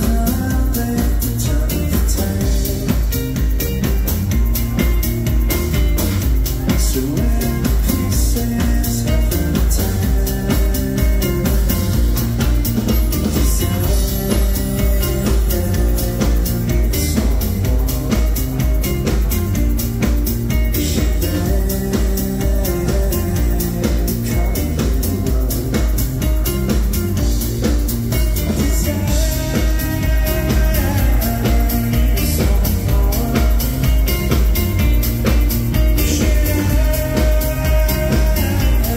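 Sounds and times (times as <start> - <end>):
electronic dance music: 0.0 - 38.9
man singing: 0.0 - 38.9.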